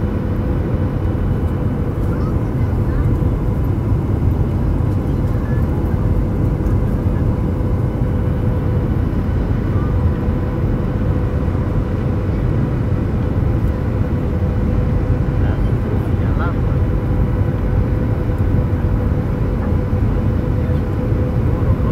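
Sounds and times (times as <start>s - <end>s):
airliner cabin engine rumble: 0.0s - 21.9s.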